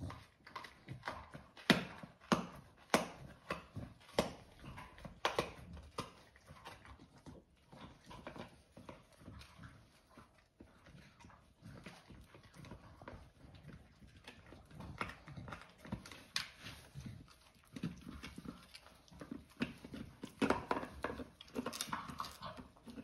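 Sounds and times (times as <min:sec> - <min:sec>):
dog gnawing a chew treat: 0:00.0 - 0:23.0.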